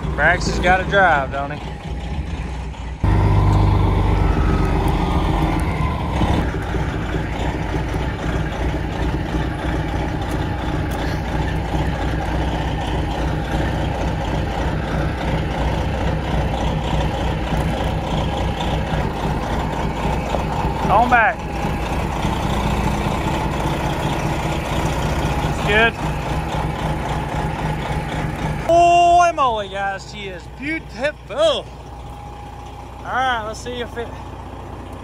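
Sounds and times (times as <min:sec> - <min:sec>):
diesel truck engine droning: 0:00.0 - 0:35.0.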